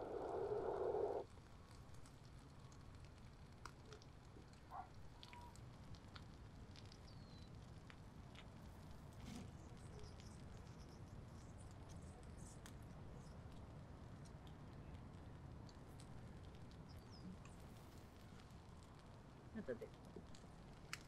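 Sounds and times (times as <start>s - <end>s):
soft ticks and crackles: 0.0s - 21.0s.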